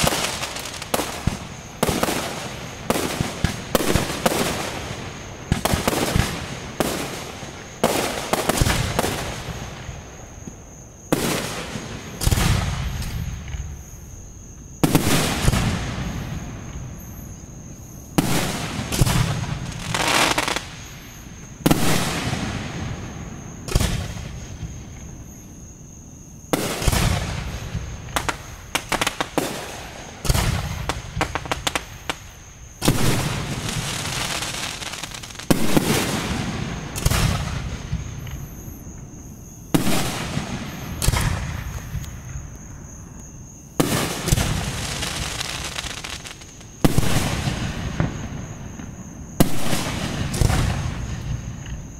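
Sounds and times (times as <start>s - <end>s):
fireworks bangs: 0.0s - 14.0s, 14.8s - 25.4s, 26.5s - 38.7s, 39.6s - 42.5s, 43.8s - 51.9s.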